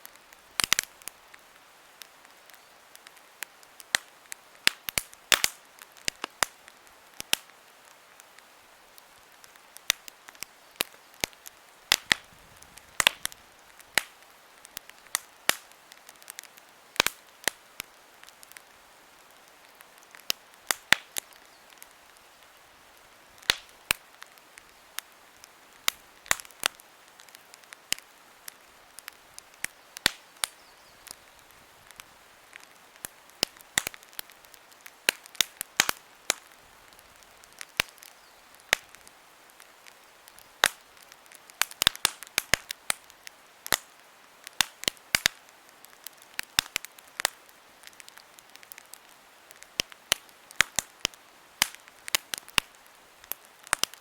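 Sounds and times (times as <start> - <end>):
campfire crackling: 0.0 - 54.0
faint steady hiss: 0.0 - 54.0.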